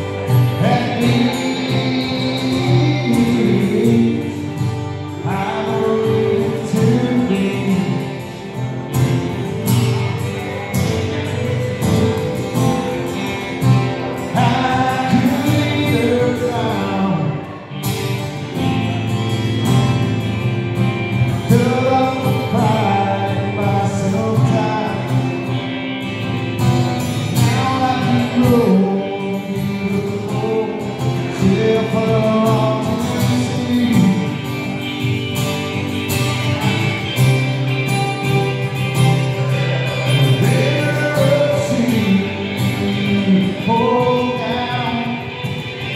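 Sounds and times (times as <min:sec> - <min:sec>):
man singing: 0:00.0 - 0:09.4, 0:10.5 - 0:17.8, 0:21.3 - 0:25.8, 0:27.2 - 0:35.8, 0:38.0 - 0:45.9
electric guitar: 0:00.0 - 0:45.9
steel guitar: 0:00.0 - 0:45.9
strummed acoustic guitar: 0:00.0 - 0:45.9.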